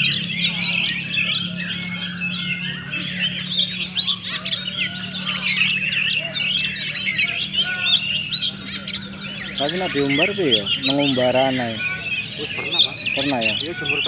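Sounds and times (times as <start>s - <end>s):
songbirds chirping and whistling: 0.0s - 14.0s
steady low hum: 0.0s - 14.0s.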